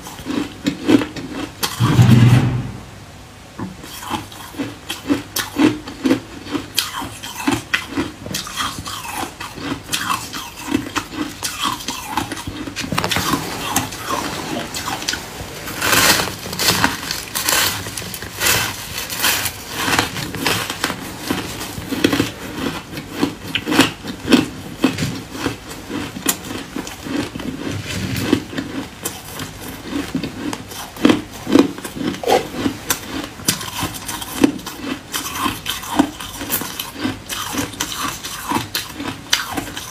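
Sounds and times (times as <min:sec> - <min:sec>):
crunching of ice being chewed: 0:00.0 - 0:01.8, 0:03.8 - 0:15.1, 0:15.8 - 0:39.9.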